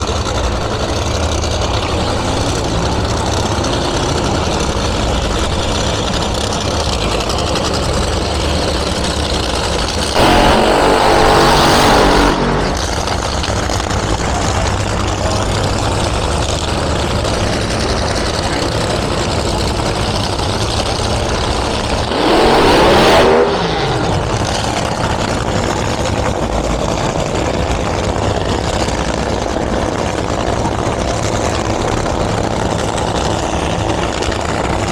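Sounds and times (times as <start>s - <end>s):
engine idling and revving: 0.0s - 34.9s.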